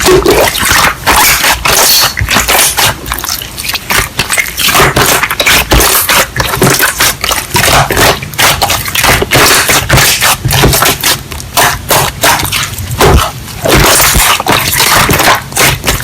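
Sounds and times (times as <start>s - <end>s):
crunchy crackling and scraping: 0.0s - 16.0s.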